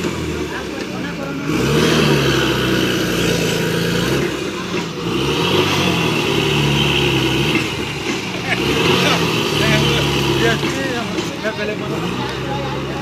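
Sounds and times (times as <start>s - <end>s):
heavy diesel engine revving: 0.0s - 13.0s.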